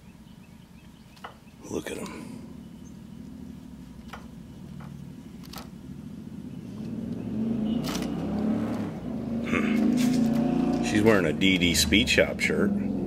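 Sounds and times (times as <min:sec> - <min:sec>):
motorcycle engine approaching: 0:02.0 - 0:13.0.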